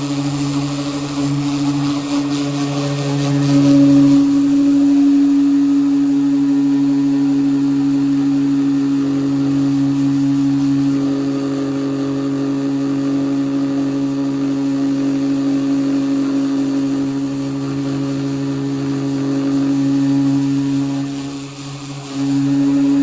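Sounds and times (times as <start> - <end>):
power sander on metal: 0.0 - 23.0.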